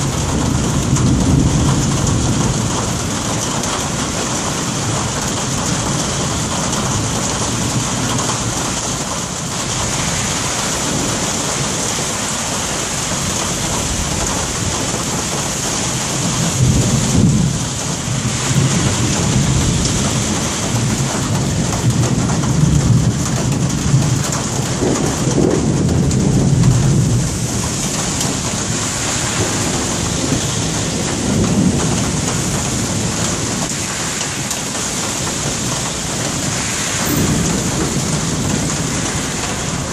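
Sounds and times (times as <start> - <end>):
rain falling: 0.0 - 39.9
thunder rumbling: 0.0 - 39.9.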